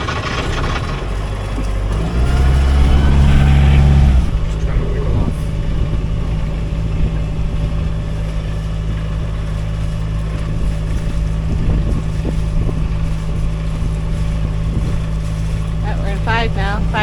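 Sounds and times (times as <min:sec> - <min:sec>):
boat engine running: 0:00.0 - 0:17.0
wind on microphone: 0:01.5 - 0:17.0.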